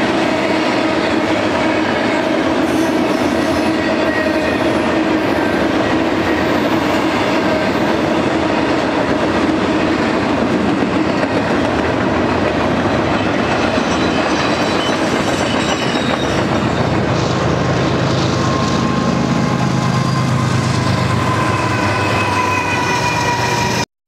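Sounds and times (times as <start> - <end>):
diesel locomotive engine hum: 0.0 - 23.9.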